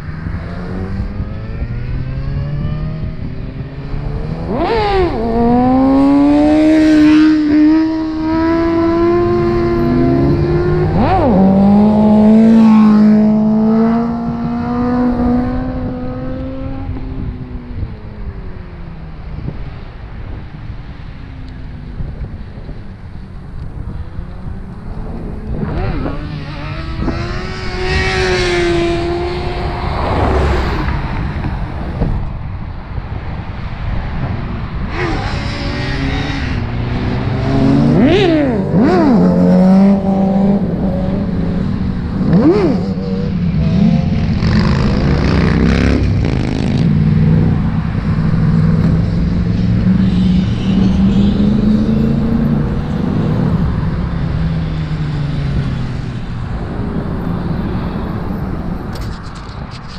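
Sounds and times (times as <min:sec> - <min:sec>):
other engines revving: 0:00.0 - 0:18.3, 0:23.4 - 0:32.3, 0:34.4 - 0:59.9.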